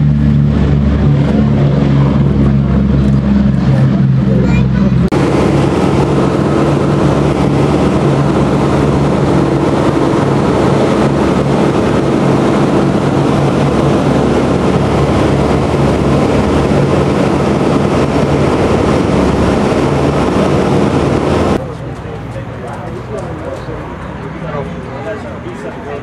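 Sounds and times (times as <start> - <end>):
radial aircraft engines droning: 0.0 - 26.0.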